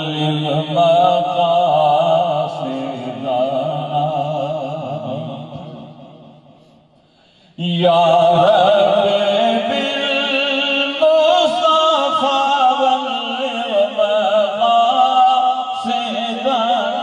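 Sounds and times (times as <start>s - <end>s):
man singing: 0.0s - 6.1s, 7.5s - 17.0s.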